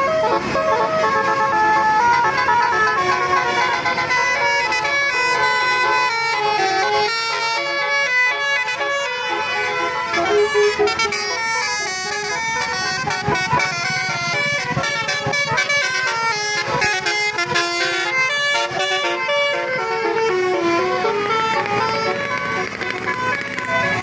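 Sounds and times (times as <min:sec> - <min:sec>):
multi-tone bus air horns: 0:00.0 - 0:24.0.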